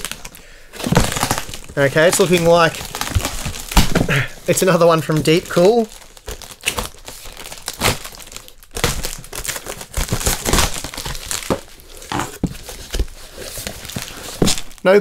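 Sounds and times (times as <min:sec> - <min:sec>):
packaging ripping: 0:00.0 - 0:14.8
packaging crinkling and rustling: 0:00.0 - 0:15.0.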